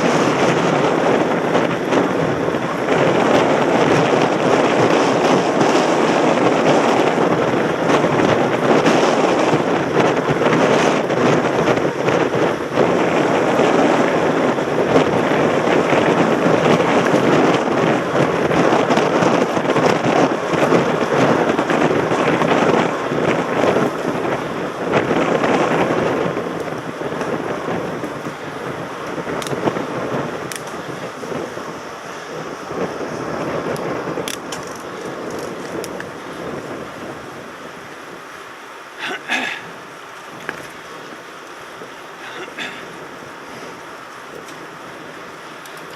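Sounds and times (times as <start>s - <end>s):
bike rattle and tyre crunch: 0.0s - 45.9s
wind buffeting microphone: 0.0s - 45.9s.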